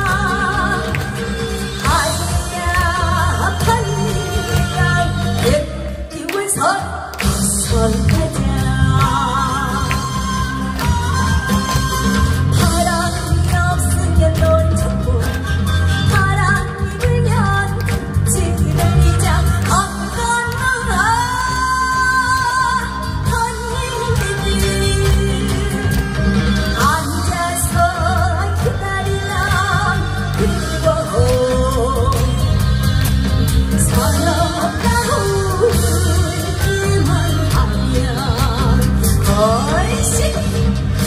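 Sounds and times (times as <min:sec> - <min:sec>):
band with steady bass beat: 0:00.0 - 0:41.0
woman singing with vibrato: 0:00.0 - 0:41.0.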